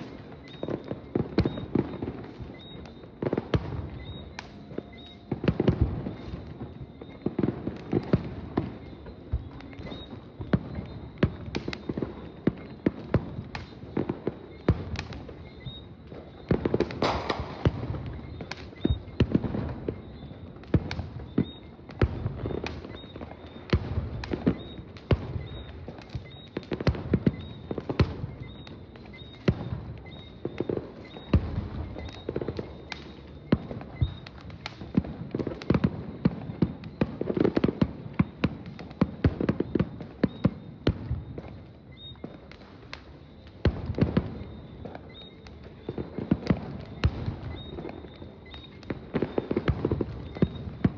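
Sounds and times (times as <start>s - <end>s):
firework bangs and crackles: 0.0s - 50.9s.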